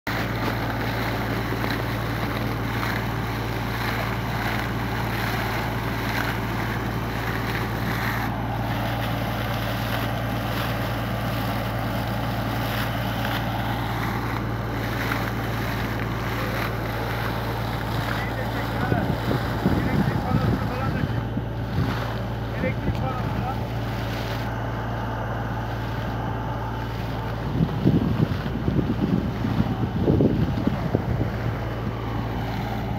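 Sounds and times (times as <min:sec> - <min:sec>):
engine low drone: 0:00.0 - 0:32.9
water gushing and splashing: 0:00.0 - 0:32.9.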